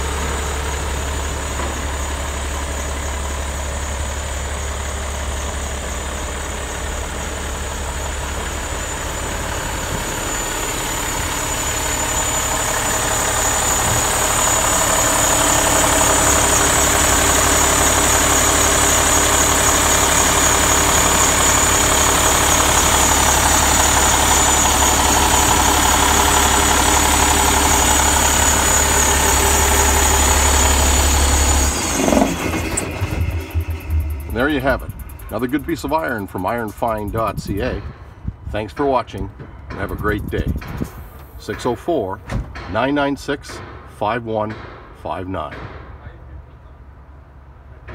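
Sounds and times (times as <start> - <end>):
diesel engine idling: 0.0 - 42.2.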